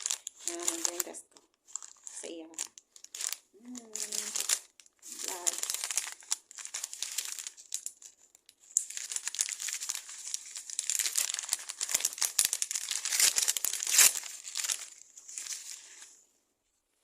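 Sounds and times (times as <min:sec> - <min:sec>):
crinkling handling noise: 0:00.0 - 0:17.0.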